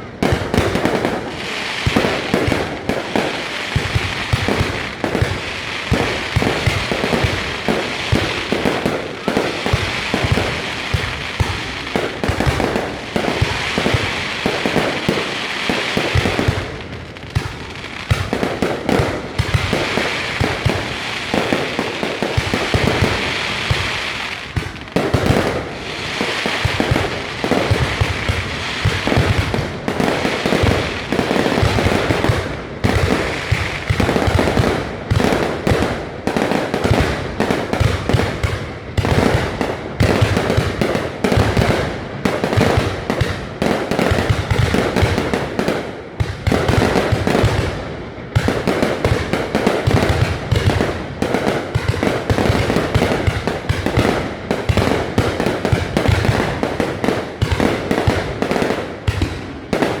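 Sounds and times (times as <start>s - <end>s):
fireworks bangs and crackling: 0.0s - 60.0s.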